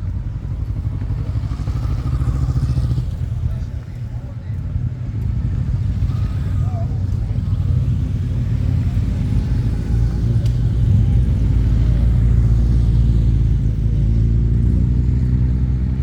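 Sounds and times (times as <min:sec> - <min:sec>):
motorcycle engines at low revs: 0:00.0 - 0:16.0.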